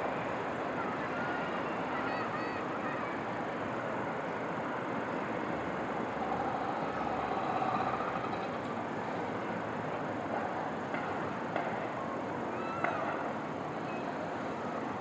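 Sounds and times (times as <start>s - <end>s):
distant city traffic: 0.0s - 15.0s.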